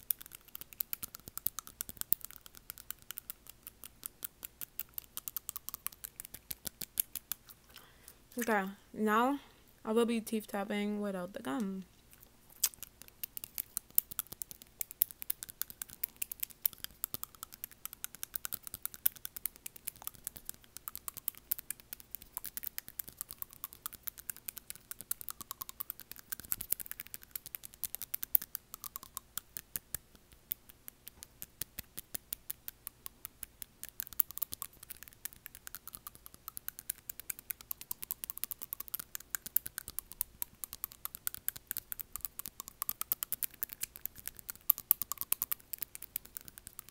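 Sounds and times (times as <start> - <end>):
fingernails tapping on teeth: 0.0 - 7.9, 12.1 - 46.9.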